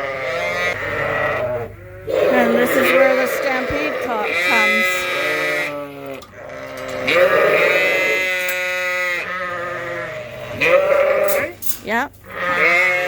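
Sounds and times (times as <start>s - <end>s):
sheep bleating: 0.0s - 11.6s, 12.3s - 13.0s.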